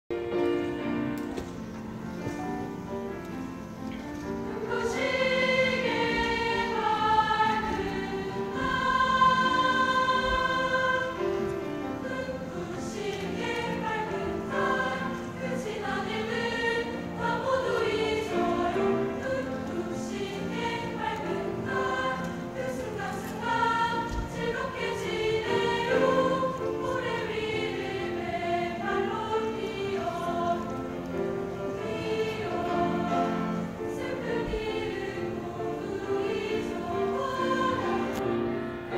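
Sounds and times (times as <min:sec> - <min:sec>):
piano accompaniment: 0:00.1 - 0:38.9
girls' choir singing: 0:00.2 - 0:38.9.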